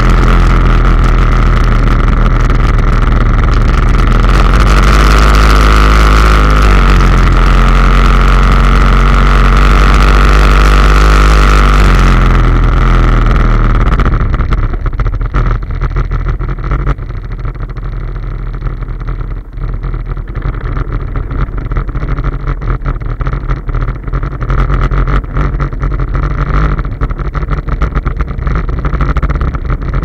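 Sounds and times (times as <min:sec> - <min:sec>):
quad engine running: 0:00.0 - 0:30.0
wind and road noise: 0:00.0 - 0:30.0.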